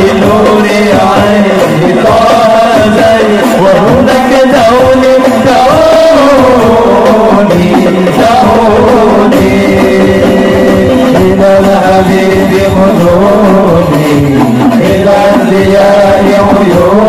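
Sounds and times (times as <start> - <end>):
frame drum rhythm: 0.0 - 17.0
men singing over a pa: 0.0 - 17.0.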